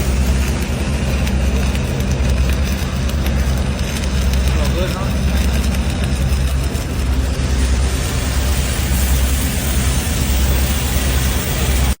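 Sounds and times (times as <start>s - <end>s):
constant low hum: 0.0s - 12.0s
welder arc hissing: 0.0s - 12.0s.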